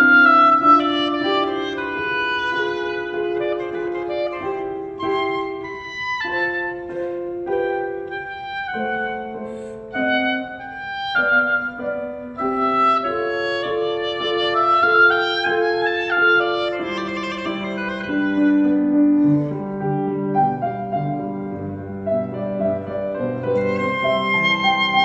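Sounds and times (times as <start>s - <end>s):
grand piano: 0.0s - 25.0s
oboe melody: 0.0s - 25.0s.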